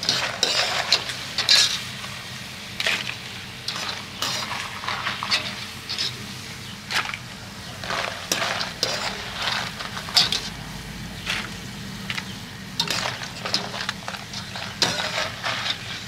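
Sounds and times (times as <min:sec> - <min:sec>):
wire skimmer scraping a pan: 0:00.0 - 0:10.6, 0:11.2 - 0:16.0
tortilla pieces sizzling in oil: 0:00.0 - 0:16.0.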